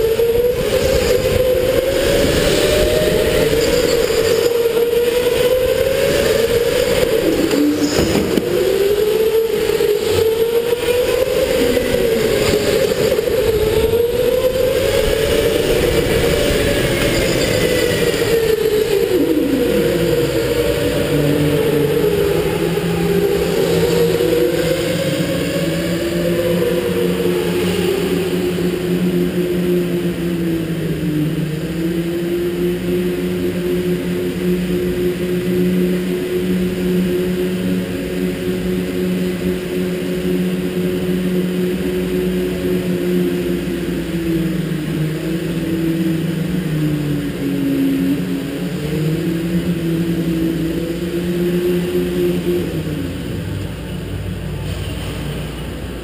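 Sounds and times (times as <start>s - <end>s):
electric go-kart motor whining: 0.0s - 56.0s.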